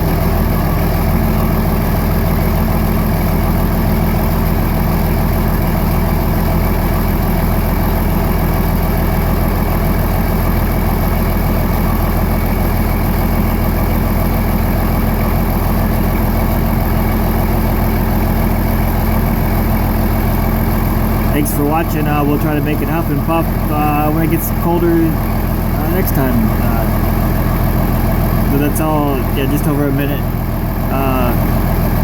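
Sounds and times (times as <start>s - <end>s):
diesel tractor idling: 0.0s - 32.0s.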